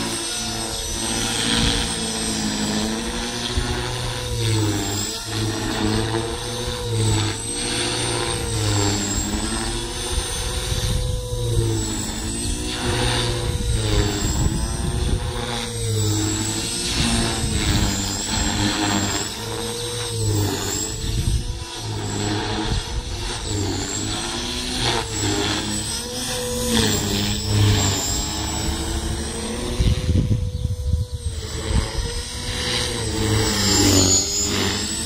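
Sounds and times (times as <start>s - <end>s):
rc helicopter motor whine: 0.0s - 35.0s.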